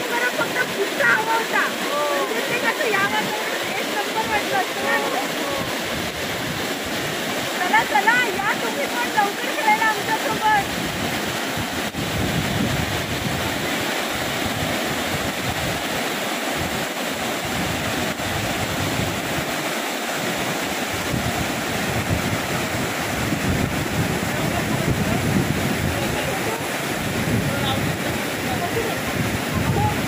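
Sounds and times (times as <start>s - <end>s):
water rushing over weir: 0.0s - 30.0s
wind buffeting microphone: 1.8s - 19.6s, 20.2s - 30.0s.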